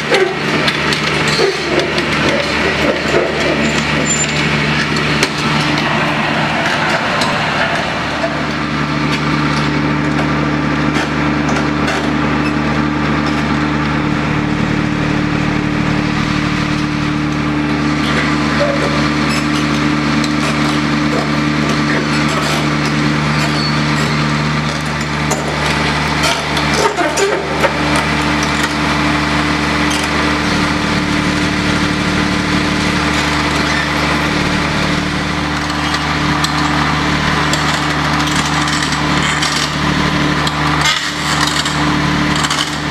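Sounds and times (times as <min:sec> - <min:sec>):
heavy machine engine humming: 0:00.0 - 0:42.9.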